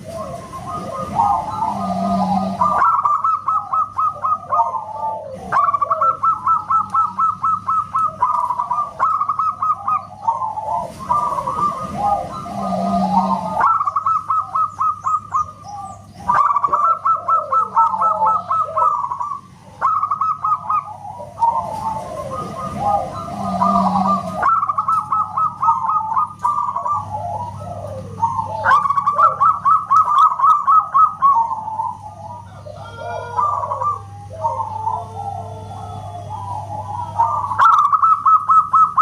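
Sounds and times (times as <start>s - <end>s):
doves cooing: 0.0s - 39.0s.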